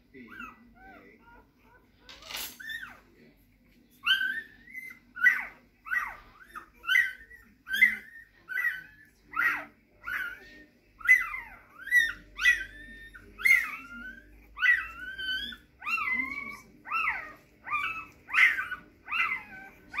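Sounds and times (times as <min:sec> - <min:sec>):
puppies squeaking and whining: 0:00.0 - 0:20.0.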